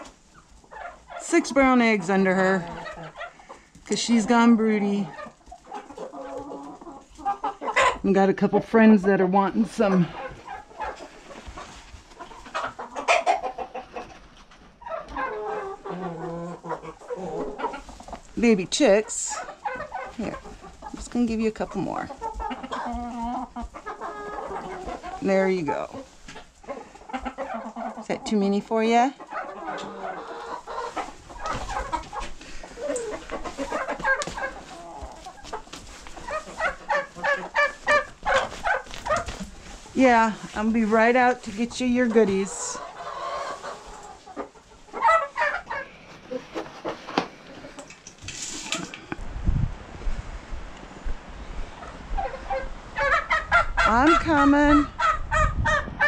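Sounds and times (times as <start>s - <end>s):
chickens clucking: 0.0s - 49.3s, 50.8s - 56.0s.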